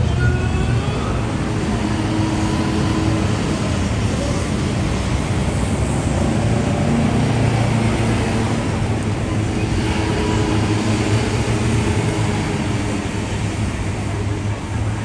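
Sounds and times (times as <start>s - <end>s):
city street traffic: 0.0s - 15.0s
vehicle engine humming nearby: 0.0s - 15.0s.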